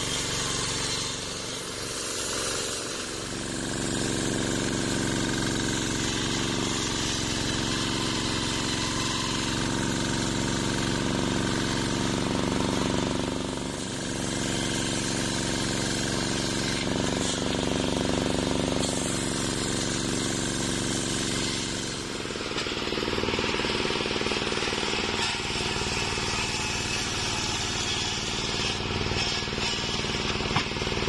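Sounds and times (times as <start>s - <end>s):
engine drone: 0.0s - 31.0s
saw blade cutting log: 0.0s - 31.0s.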